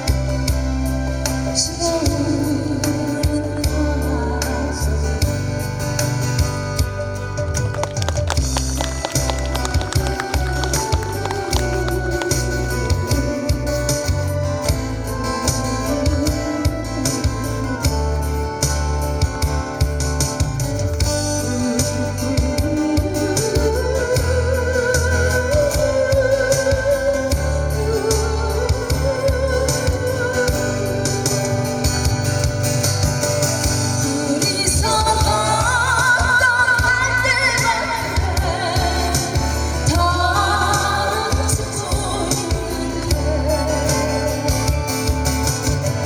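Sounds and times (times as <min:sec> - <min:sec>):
backing track beat and bass: 0:00.0 - 0:46.0.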